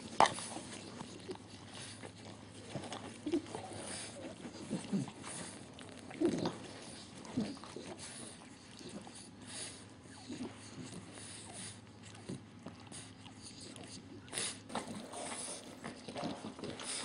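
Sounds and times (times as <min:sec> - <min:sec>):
puppy making low vocal sounds: 0:00.0 - 0:17.0.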